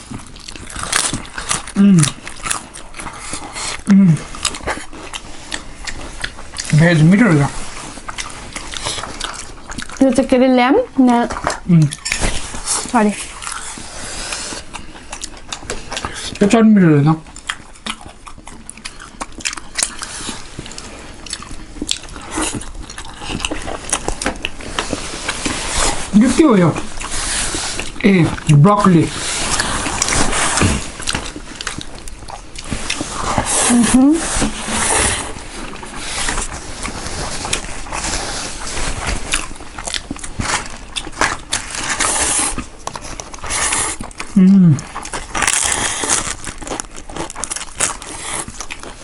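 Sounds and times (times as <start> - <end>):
person chewing crunchy food: 0.0 - 49.0.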